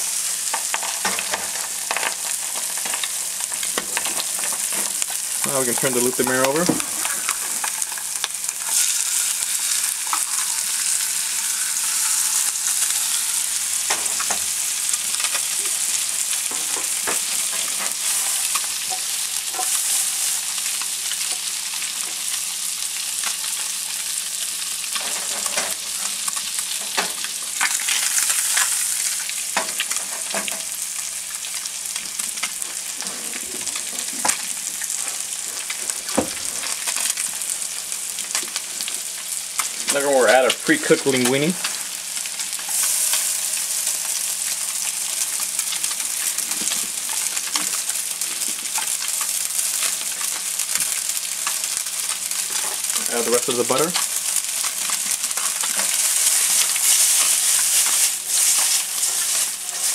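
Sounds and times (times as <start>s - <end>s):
butter and oil sizzling in pans: 0.0s - 59.9s.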